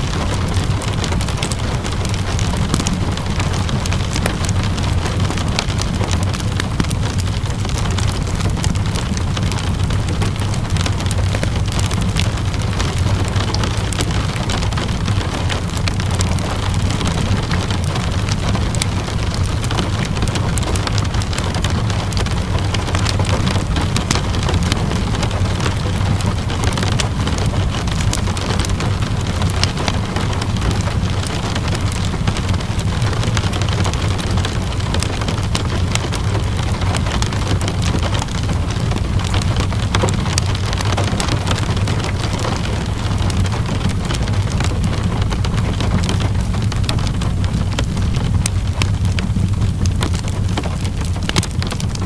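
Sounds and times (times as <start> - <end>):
fire crackling: 0.0 - 52.0
fire low rumble: 0.0 - 52.0
rain hissing: 0.0 - 52.0.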